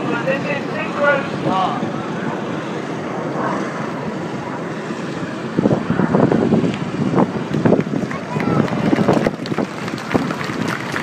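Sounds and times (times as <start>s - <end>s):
jets roaring overhead: 0.0s - 11.0s
wind buffeting microphone: 0.0s - 11.0s.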